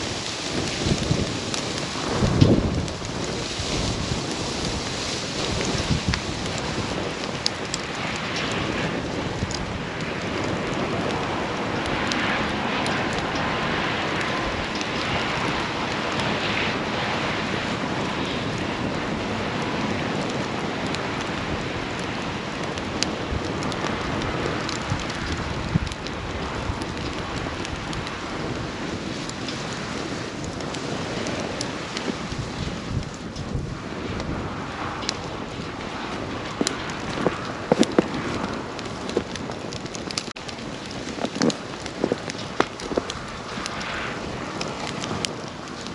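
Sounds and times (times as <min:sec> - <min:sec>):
campfire crackling: 0:00.0 - 0:45.9
fire pops: 0:00.0 - 0:45.9.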